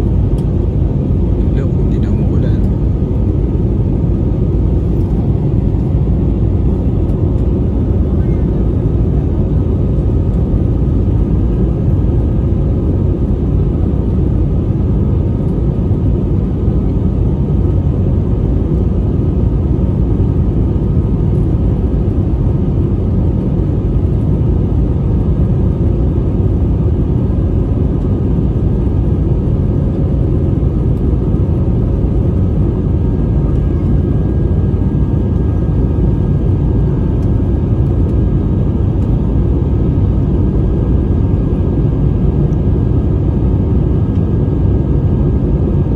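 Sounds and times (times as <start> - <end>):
jet cabin engine rumble: 0.0 - 45.9.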